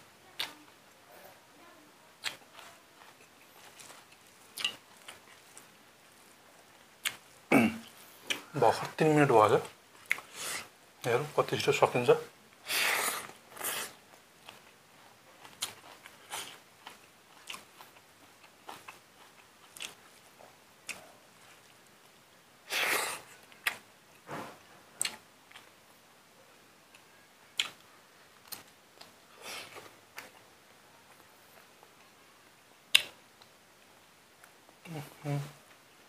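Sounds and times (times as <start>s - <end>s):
man chewing food: 2.2s - 10.8s, 12.5s - 26.0s, 26.9s - 35.0s.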